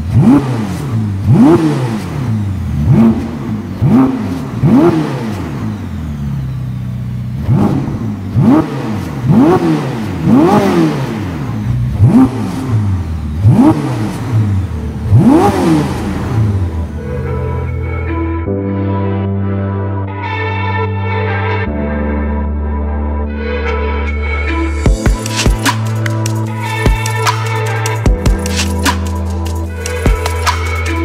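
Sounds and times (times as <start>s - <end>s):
sports car engine revving: 0.0s - 18.3s, 24.2s - 31.0s.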